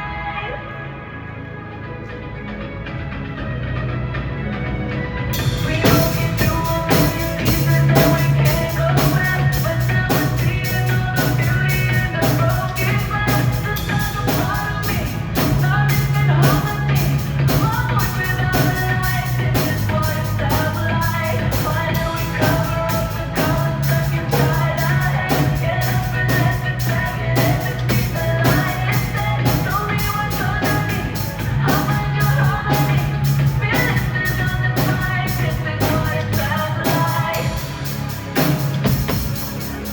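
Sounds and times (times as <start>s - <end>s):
live pop-rock band: 2.8s - 39.9s
drum kit beat: 5.3s - 39.9s.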